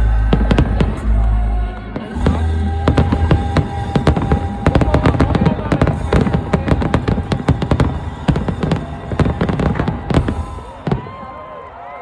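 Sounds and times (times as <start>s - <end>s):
fireworks bangs and cracks: 0.0s - 12.0s
music: 0.0s - 12.0s.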